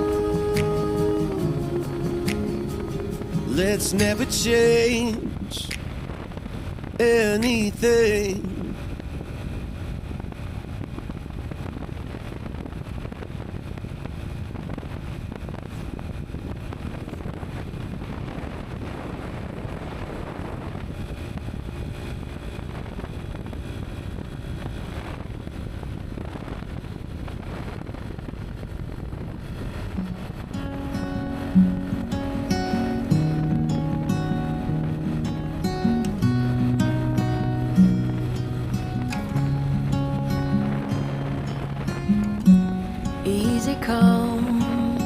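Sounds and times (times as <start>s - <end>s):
steady outdoor rushing noise: 0.0s - 45.0s.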